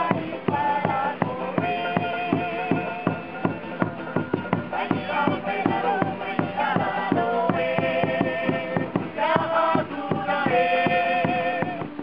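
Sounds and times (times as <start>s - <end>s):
group singing: 0.0s - 12.0s
steady drumbeat: 0.0s - 12.0s.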